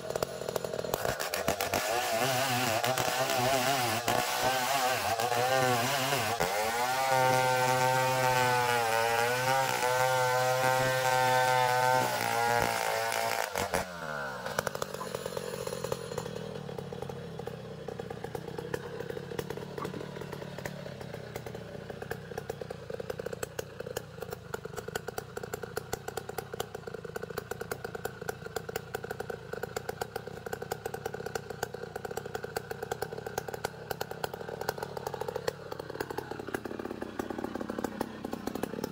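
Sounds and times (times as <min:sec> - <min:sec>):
band saw mill cutting log: 0:00.0 - 0:27.3, 0:28.2 - 0:38.9.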